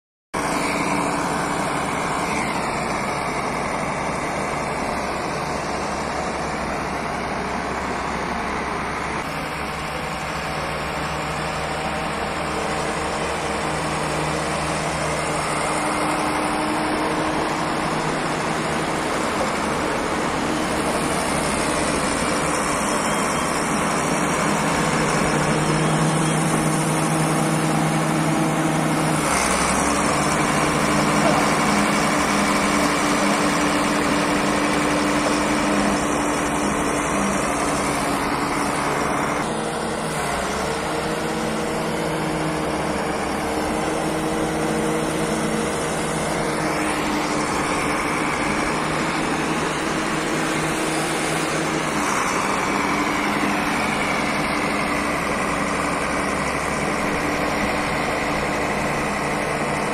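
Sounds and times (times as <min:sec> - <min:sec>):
bulldozer diesel engine running: 0:00.4 - 0:59.9.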